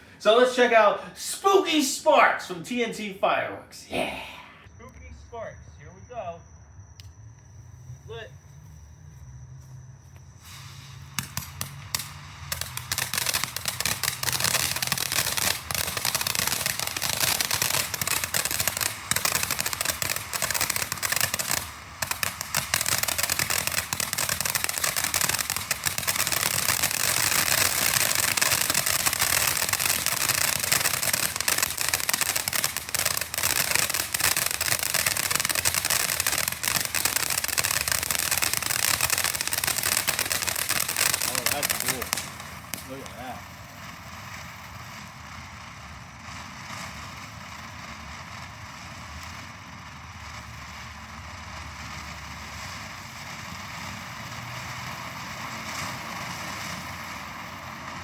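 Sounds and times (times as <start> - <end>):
firework fountain hissing and crackling: 0.0 - 4.8, 7.0 - 58.0.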